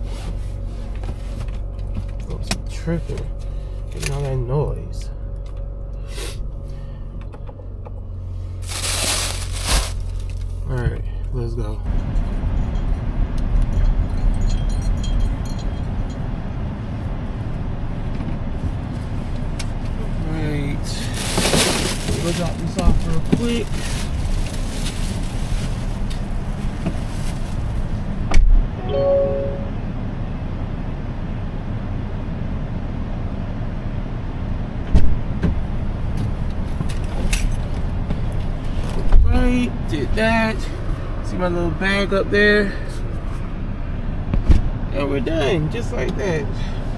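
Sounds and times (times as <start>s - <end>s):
car engine and road rumble: 0.0s - 46.9s.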